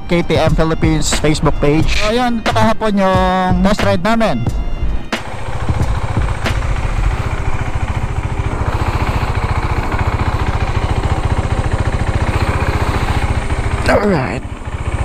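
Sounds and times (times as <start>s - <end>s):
motorcycle engine running steadily: 0.0s - 3.8s, 4.5s - 15.0s.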